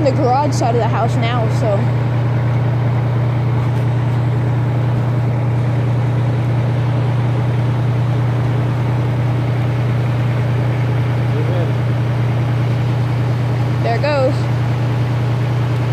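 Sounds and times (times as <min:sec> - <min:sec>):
diesel engine droning: 0:00.0 - 0:15.9.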